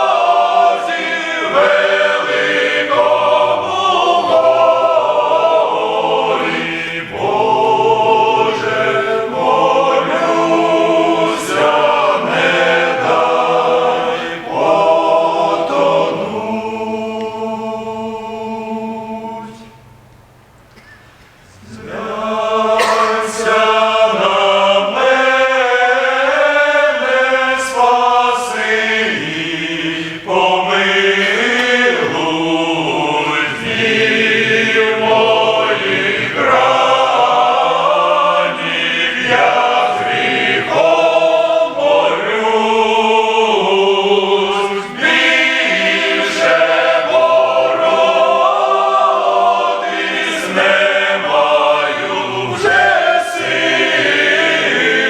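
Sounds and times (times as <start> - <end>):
men's choir singing a hymn: 0.0 - 20.1, 21.3 - 55.0.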